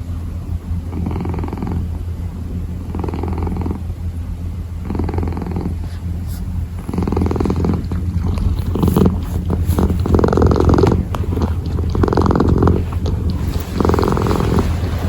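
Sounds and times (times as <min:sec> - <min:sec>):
kitten purring: 0:00.7 - 0:15.0.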